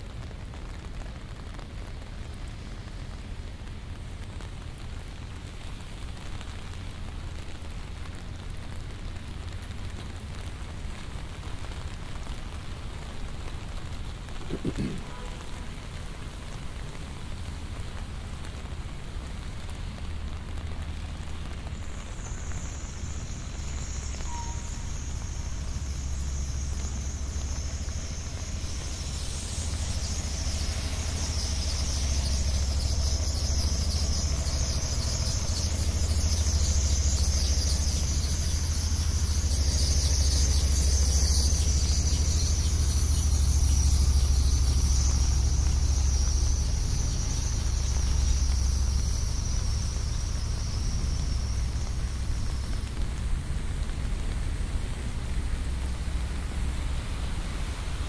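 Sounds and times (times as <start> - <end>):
rain hissing on wet road: 0.0 - 58.0
traffic rumble: 0.0 - 58.0.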